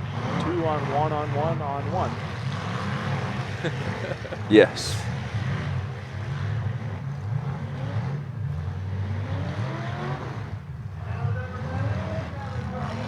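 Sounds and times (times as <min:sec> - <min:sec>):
derby car engines revving: 0:00.0 - 0:13.0.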